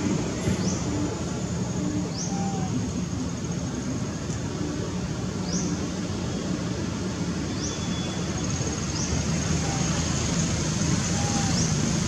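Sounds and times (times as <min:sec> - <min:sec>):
high insect drone: 0:00.0 - 0:12.0
rising insect calls: 0:00.4 - 0:06.0, 0:07.2 - 0:12.0.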